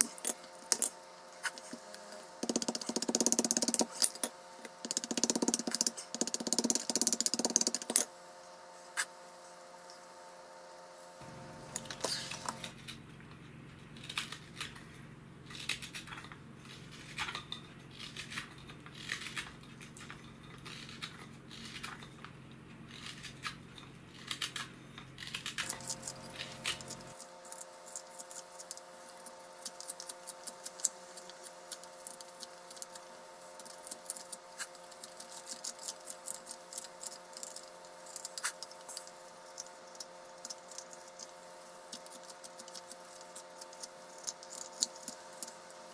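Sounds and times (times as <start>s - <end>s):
knives carving wood shavings: 0.0s - 8.1s, 15.5s - 22.3s, 22.9s - 45.8s.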